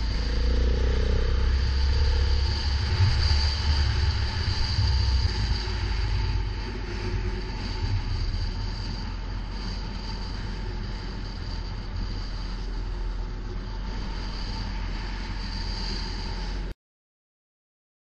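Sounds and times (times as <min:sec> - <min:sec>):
motorcycle engine rumbling: 0:00.0 - 0:15.5.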